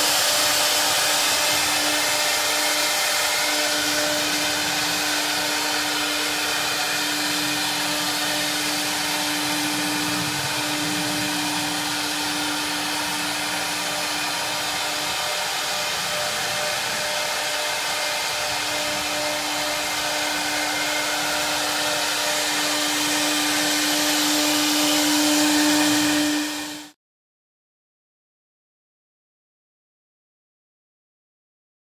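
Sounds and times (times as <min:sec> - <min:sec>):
router spindle whine: 0:00.0 - 0:27.0.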